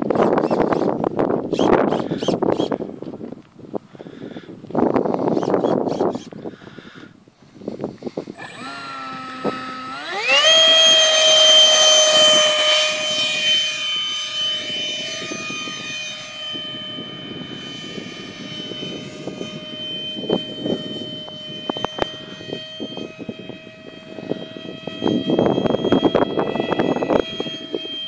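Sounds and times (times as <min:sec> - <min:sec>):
electric ducted fan whining: 0:00.0 - 0:28.0.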